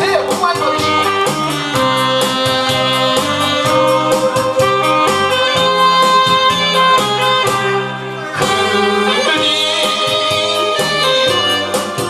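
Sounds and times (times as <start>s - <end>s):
instrumental backing music: 0.0s - 12.0s.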